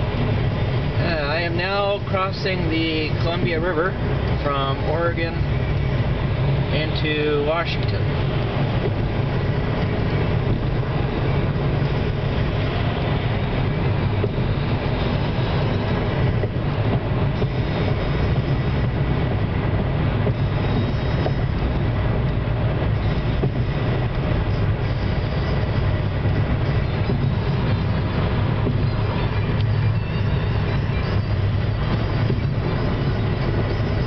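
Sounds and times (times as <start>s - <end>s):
car cabin road noise: 0.0s - 34.0s.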